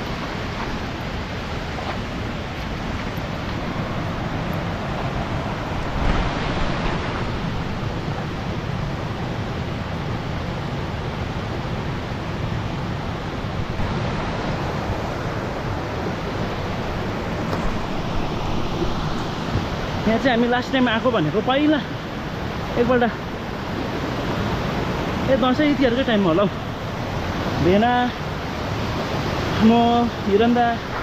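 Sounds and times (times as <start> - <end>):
rushing stream water: 0.0 - 31.0.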